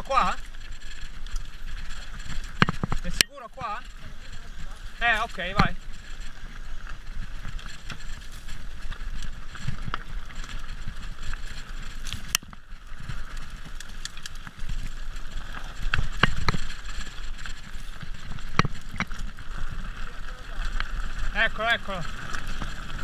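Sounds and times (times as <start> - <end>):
chain and frame rattling: 0.0 - 20.0
bike tyres rolling on dirt: 0.0 - 23.0.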